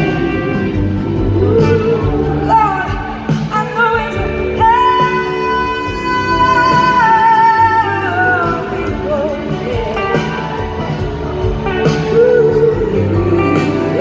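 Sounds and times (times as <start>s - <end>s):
live rock blues band: 0.0s - 14.0s.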